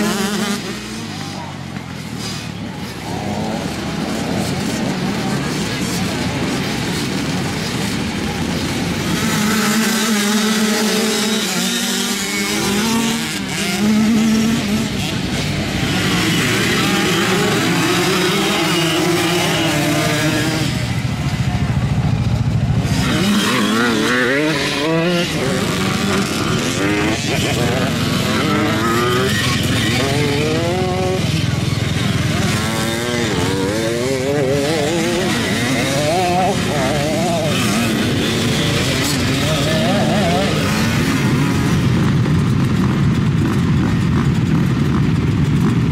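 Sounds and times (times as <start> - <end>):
quad engines revving: 0.0 - 45.9.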